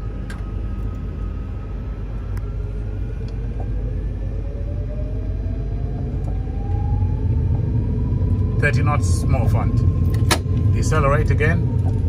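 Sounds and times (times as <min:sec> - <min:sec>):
airliner rumbling along runway: 0:00.0 - 0:12.0
jet engine whine rising in pitch: 0:00.0 - 0:12.0.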